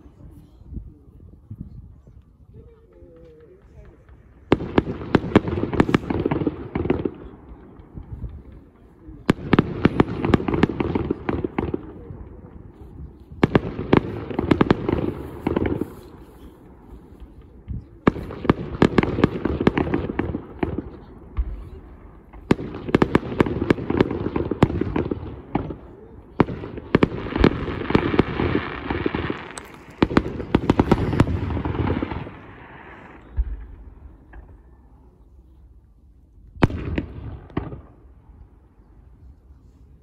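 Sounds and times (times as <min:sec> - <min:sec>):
fireworks crackling: 0:02.7 - 0:35.0
fireworks bangs: 0:02.9 - 0:34.8, 0:36.6 - 0:38.4.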